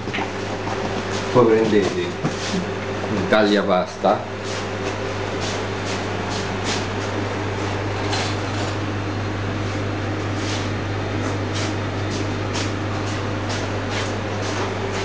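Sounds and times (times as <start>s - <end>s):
kitchen equipment humming: 0.0s - 15.0s.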